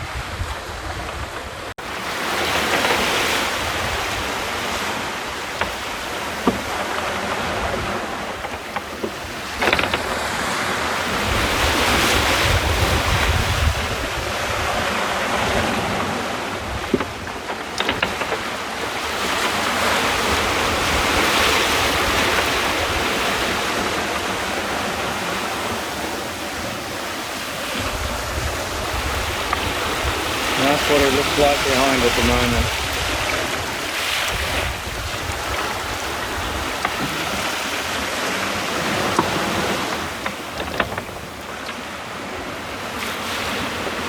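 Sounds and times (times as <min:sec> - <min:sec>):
water rushing along a boat hull: 0:00.0 - 0:44.0
wind buffeting microphone: 0:00.0 - 0:44.0.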